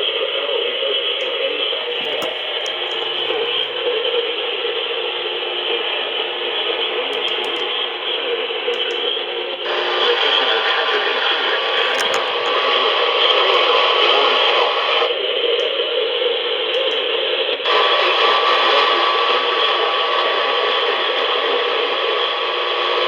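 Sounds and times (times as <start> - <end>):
radio static hiss: 1.0 - 23.0.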